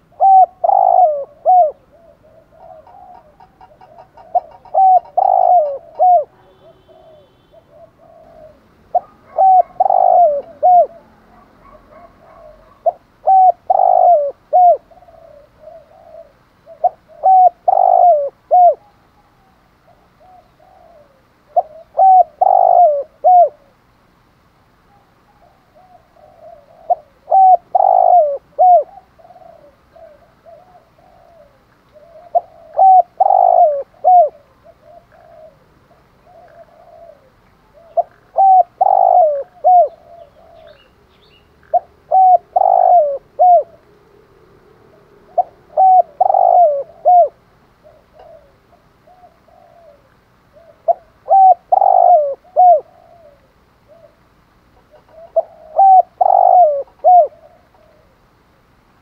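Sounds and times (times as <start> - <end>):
dove cooing: 0.0 - 23.8, 24.9 - 58.4.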